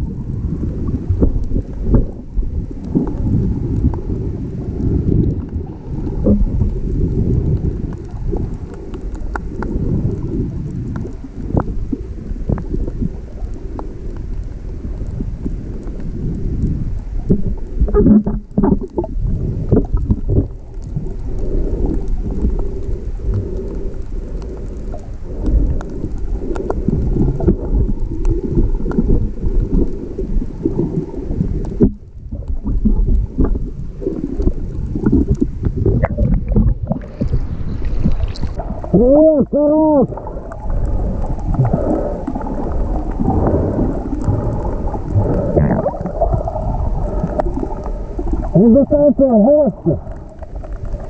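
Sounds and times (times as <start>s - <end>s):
stormy sea waves: 0.0s - 51.0s
water splashes: 0.0s - 51.0s.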